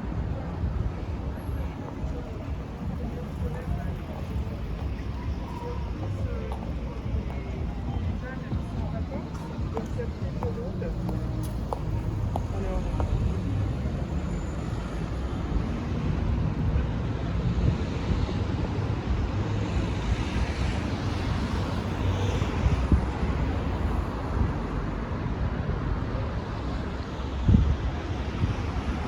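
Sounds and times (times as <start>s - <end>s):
city street traffic: 0.0s - 29.0s
wind rumbling on microphone: 0.0s - 29.0s.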